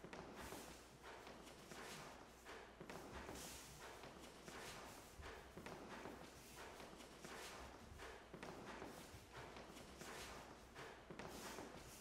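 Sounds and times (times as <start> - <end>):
bare footsteps on floor: 0.0 - 12.0.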